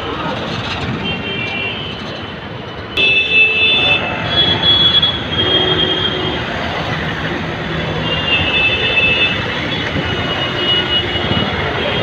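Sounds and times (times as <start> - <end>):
heavy road traffic: 0.0 - 12.0.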